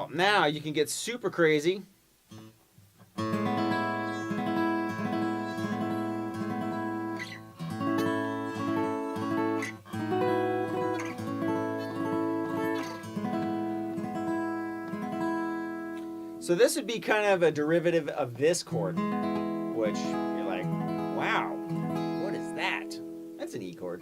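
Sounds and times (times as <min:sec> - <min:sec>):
acoustic guitar strumming chords: 0:03.1 - 0:24.0.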